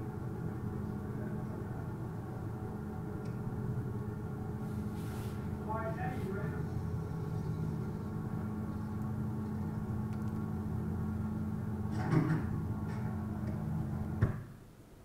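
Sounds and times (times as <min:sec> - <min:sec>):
boat engine droning: 0:00.0 - 0:14.2.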